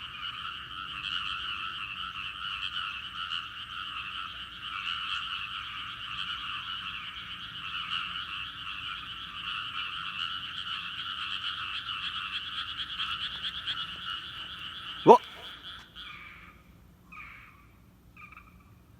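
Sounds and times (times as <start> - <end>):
frogs calling in chorus: 0.0 - 16.4.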